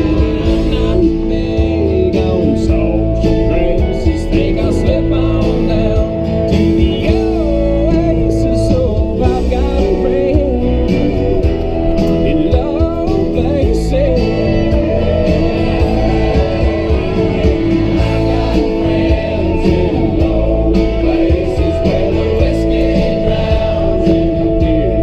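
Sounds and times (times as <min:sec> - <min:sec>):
country song with guitar: 0:00.0 - 0:25.0
person singing: 0:00.0 - 0:25.0.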